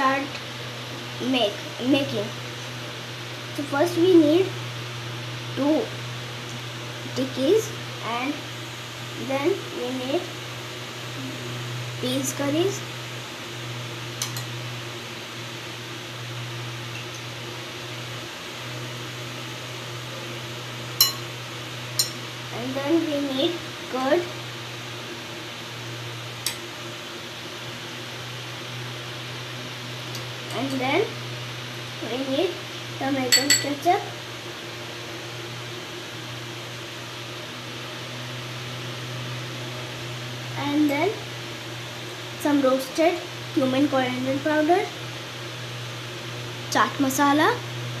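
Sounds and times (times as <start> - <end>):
room noise hiss: 0.0 - 48.0
steady low hum: 0.0 - 48.0.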